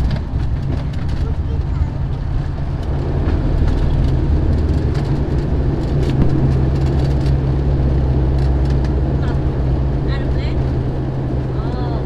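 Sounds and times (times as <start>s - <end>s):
airliner engines and propellers drone: 0.0s - 12.0s.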